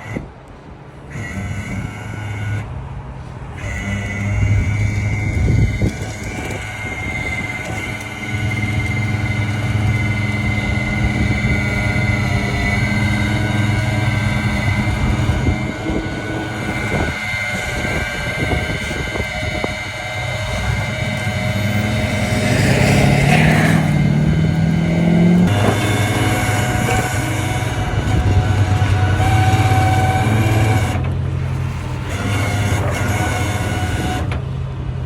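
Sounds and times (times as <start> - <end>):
hydraulic winch whine: 0.0 - 35.0
truck engine running: 0.0 - 35.0.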